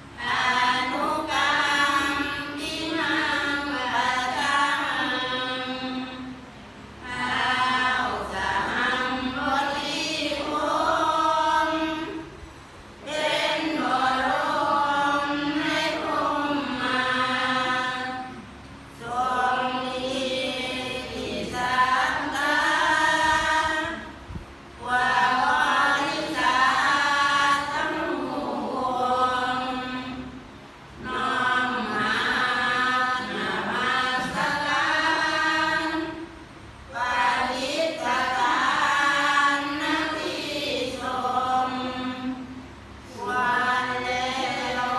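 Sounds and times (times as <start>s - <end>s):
group chanting in unison: 0.2s - 6.4s, 7.0s - 12.4s, 13.0s - 24.1s, 24.8s - 30.4s, 31.0s - 36.3s, 36.9s - 44.9s.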